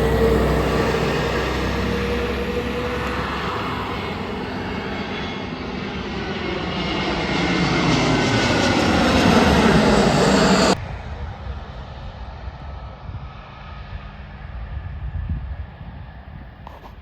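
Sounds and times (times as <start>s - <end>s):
jet engines roaring: 0.0s - 15.1s
faint engine whine: 0.0s - 17.0s.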